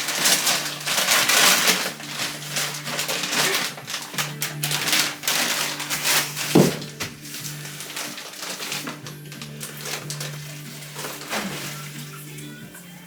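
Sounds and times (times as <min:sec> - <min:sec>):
powder pouring into water: 0:00.0 - 0:12.5.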